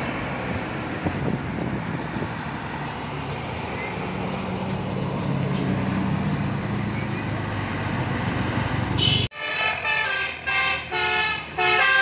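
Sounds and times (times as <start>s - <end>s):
bus diesel engines: 0.0s - 12.0s
tyre and road noise: 0.0s - 12.0s.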